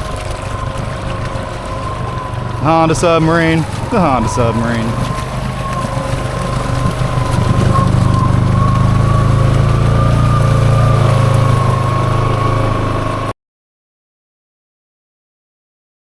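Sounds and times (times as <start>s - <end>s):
atv engine running: 0.0s - 13.3s.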